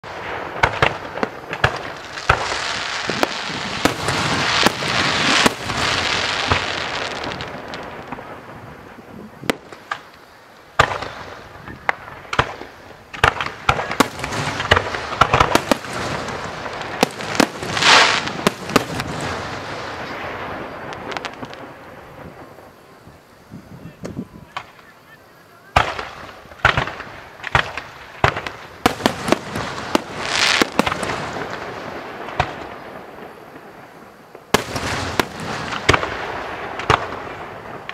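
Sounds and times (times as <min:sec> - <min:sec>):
fireworks bangs: 0:00.0 - 0:37.9
fireworks crackling: 0:00.0 - 0:37.9.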